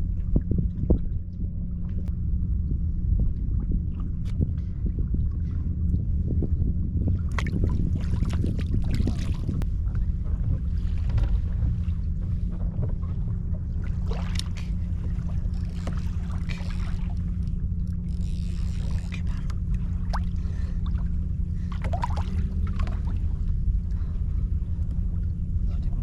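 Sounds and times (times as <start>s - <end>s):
outboard motor running: 0.0s - 26.0s
water lapping against hull: 0.0s - 26.0s.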